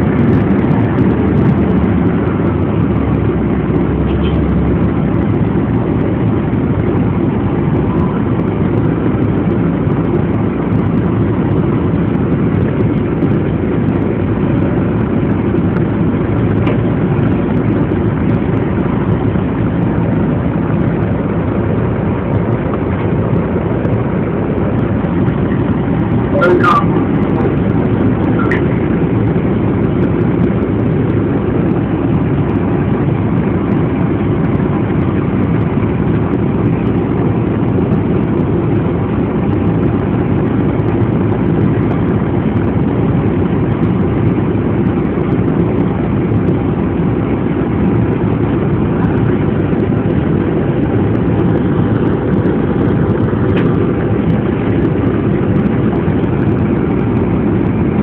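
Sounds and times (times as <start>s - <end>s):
bus engine rumble: 0.0s - 58.0s.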